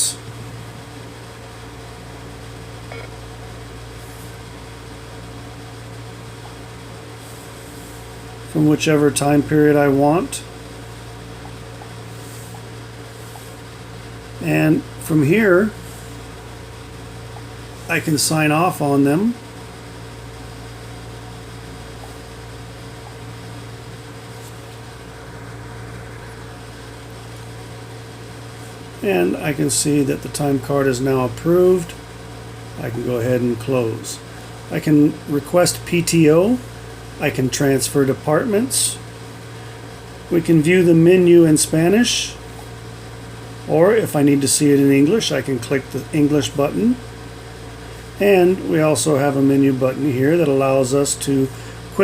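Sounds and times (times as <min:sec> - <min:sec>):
low electrical hum: 0:00.0 - 0:52.0.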